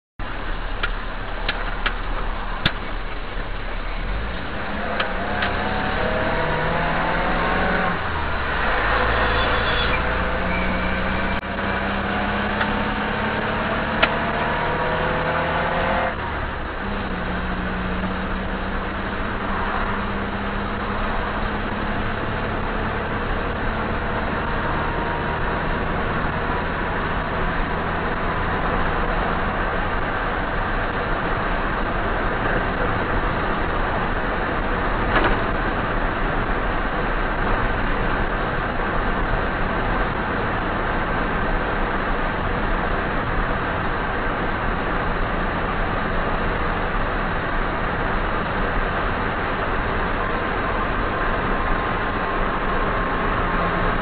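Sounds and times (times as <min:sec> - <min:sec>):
road noise: 0:00.2 - 0:54.0
vehicle engine accelerating: 0:00.3 - 0:54.0.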